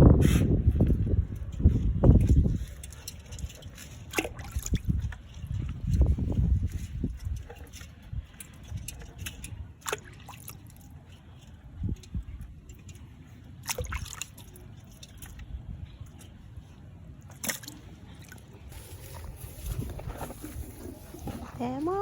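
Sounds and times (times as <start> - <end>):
water sloshing and trickling: 1.4 - 22.0.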